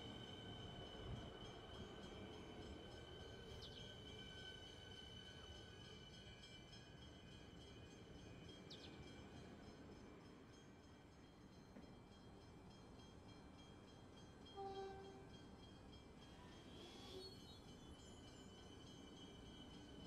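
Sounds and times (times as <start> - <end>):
electric train rumble and whine: 0.0 - 20.0.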